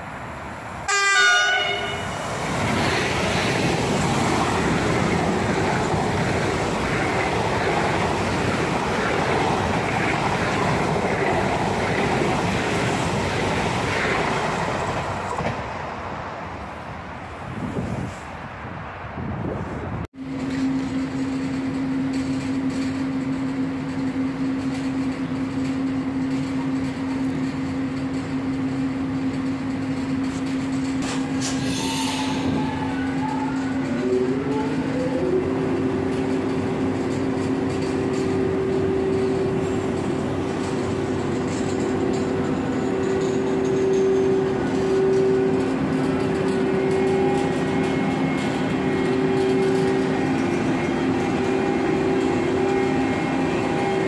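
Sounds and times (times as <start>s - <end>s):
train power car humming: 0.0s - 54.0s.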